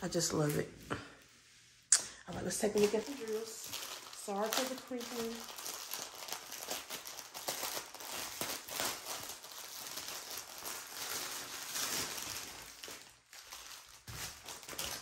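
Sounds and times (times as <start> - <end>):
plastic wrap crinkling: 2.1 - 15.0.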